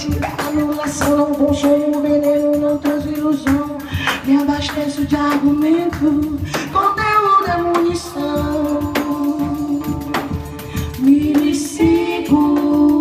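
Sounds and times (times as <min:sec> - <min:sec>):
hand percussion strikes: 0:00.0 - 0:13.0.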